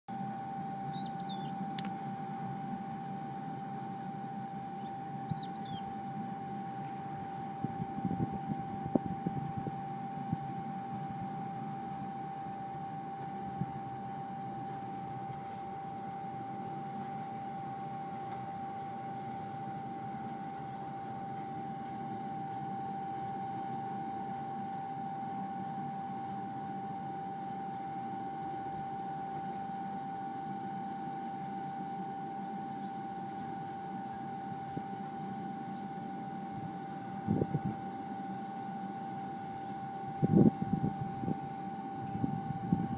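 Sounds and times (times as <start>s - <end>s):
high whine: 0.1s - 42.9s
mixing machine humming: 0.1s - 42.9s.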